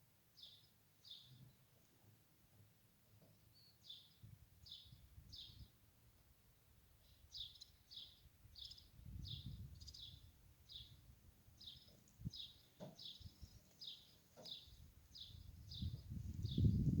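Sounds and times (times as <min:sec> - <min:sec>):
songbird chirping: 0:00.4 - 0:01.7, 0:03.2 - 0:05.8, 0:07.0 - 0:17.0.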